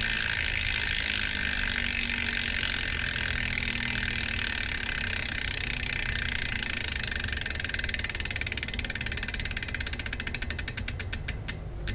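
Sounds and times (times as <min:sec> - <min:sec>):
bicycle freehub ratcheting: 0:00.0 - 0:11.9.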